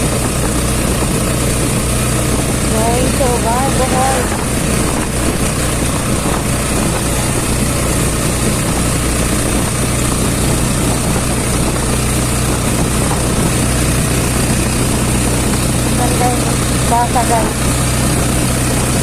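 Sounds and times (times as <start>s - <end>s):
road and wind noise: 0.0s - 19.0s
vehicle engine running: 0.0s - 19.0s.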